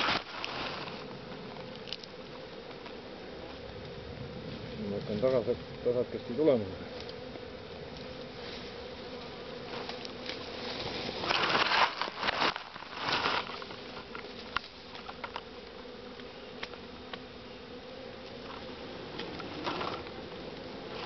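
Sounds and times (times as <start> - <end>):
rustling and crackling of leaves: 0.0 - 16.8, 18.1 - 21.0
bee swarm buzzing: 0.0 - 21.0.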